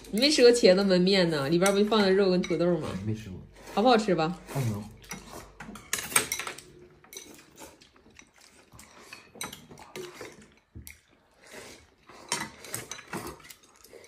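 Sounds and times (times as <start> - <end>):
chopsticks clinking on bowls: 0.0 - 3.0, 4.9 - 11.2, 11.8 - 14.0.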